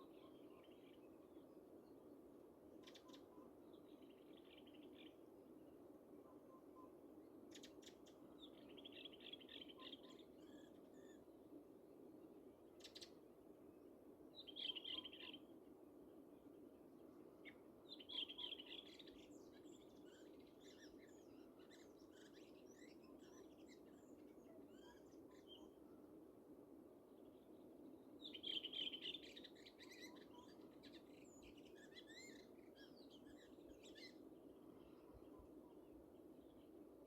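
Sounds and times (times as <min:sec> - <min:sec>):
songbirds singing and chirping: 0:00.0 - 0:02.0, 0:02.7 - 0:05.3, 0:06.2 - 0:11.3, 0:12.8 - 0:13.2, 0:14.3 - 0:15.5, 0:17.4 - 0:25.8, 0:27.1 - 0:37.0.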